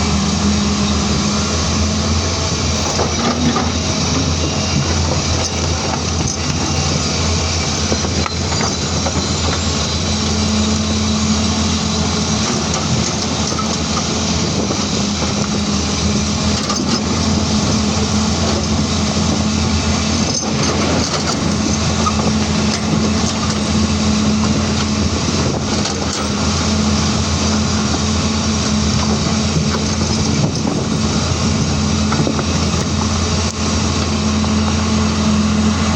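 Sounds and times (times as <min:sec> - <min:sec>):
excavator diesel engine droning: 0:00.0 - 0:35.9.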